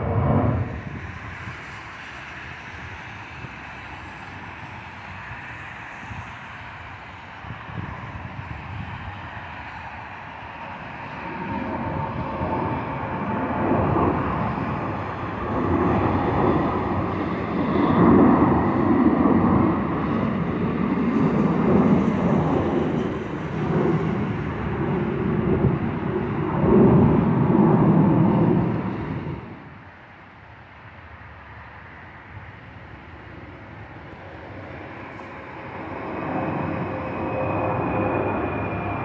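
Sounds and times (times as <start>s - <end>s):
jet engine rumbling overhead: 0.0s - 39.0s.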